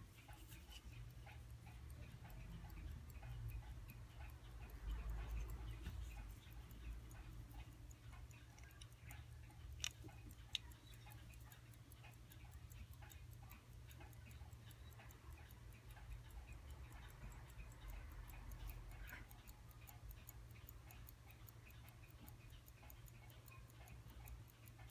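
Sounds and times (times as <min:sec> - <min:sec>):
pocket watch ticking: 0:00.0 - 0:24.9.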